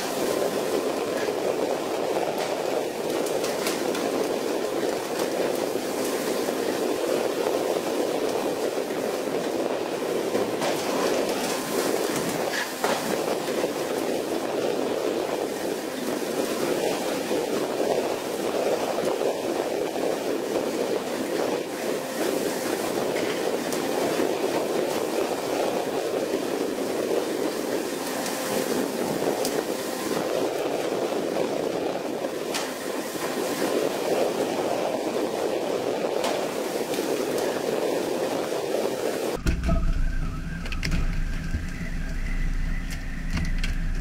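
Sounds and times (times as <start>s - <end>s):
boat running noise: 0.0s - 44.0s
water churning along hull: 0.0s - 44.0s.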